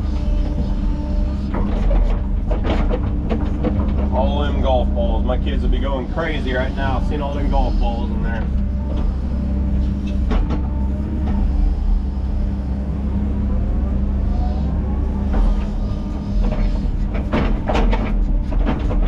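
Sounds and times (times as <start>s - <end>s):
diesel earthmoving machine running: 0.0s - 19.0s
machine whine: 0.0s - 19.0s
metal clanks and squeals: 0.0s - 19.0s.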